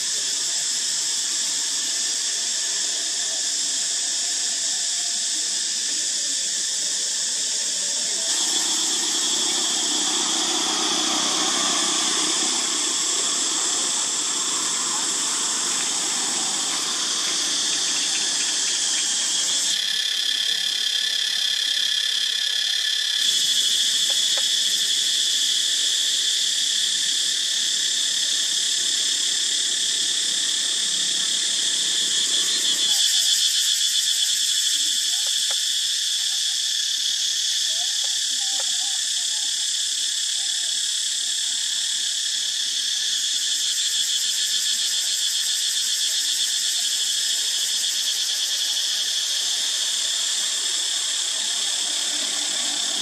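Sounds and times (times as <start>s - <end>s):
cicadas droning: 0.0s - 53.0s.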